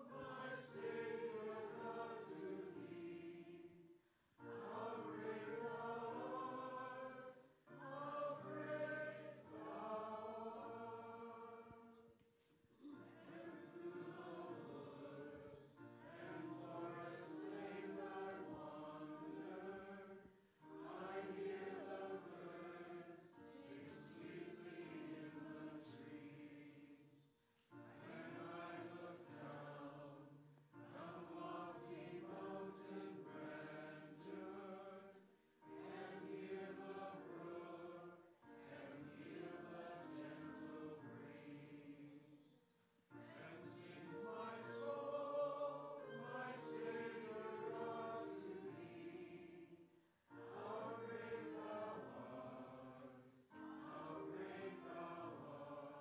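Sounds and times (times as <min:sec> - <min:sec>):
group of voices singing: 0:00.0 - 0:03.8, 0:04.4 - 0:11.9, 0:12.8 - 0:27.1, 0:27.9 - 0:42.5, 0:43.1 - 0:49.8, 0:50.4 - 0:56.0.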